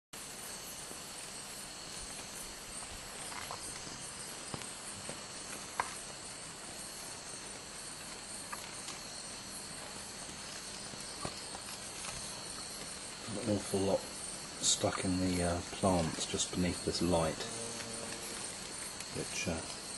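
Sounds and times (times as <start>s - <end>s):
night insects chorus: 0.2s - 19.9s.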